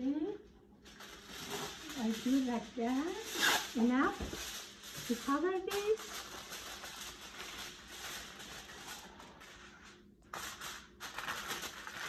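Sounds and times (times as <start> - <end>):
aluminium foil crinkling: 0.6 - 12.0.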